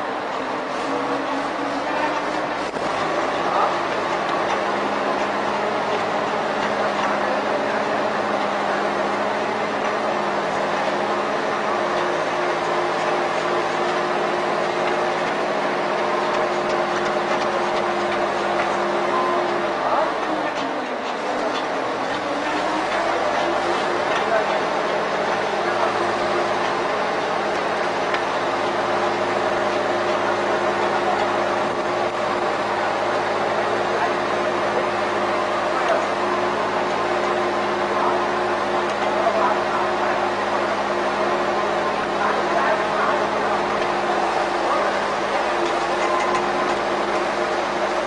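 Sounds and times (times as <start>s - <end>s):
compost turner churning: 0.0s - 48.0s
machine hum: 0.0s - 48.0s.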